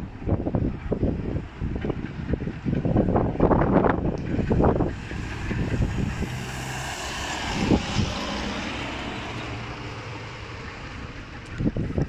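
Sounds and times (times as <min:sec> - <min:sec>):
distant diesel engine drone: 0:00.0 - 0:12.0.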